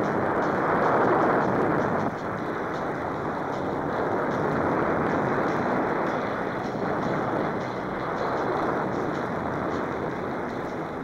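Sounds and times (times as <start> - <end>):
heavy surf breaking: 0.0 - 11.0.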